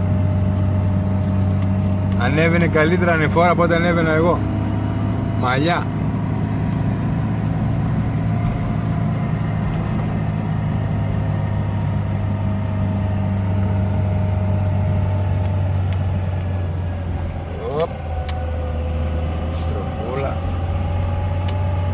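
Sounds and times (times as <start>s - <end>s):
car engine hum from inside: 0.0s - 21.9s
drivetrain whine: 0.0s - 21.9s.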